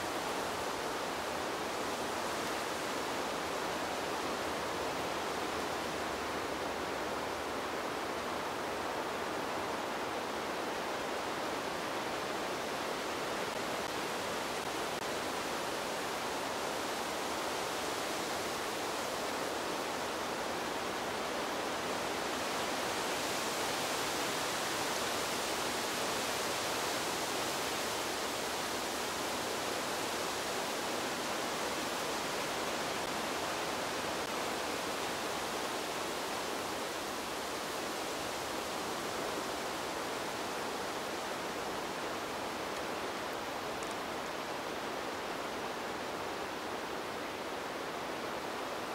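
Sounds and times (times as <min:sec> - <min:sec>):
wind blowing through trees: 0:00.0 - 0:48.9.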